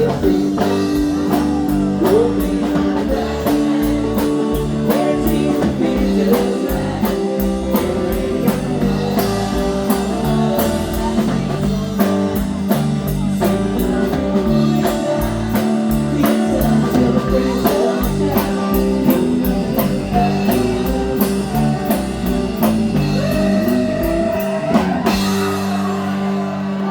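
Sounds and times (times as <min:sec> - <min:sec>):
blues-rock guitar: 0:00.0 - 0:26.9
drum kit beat: 0:00.0 - 0:26.9.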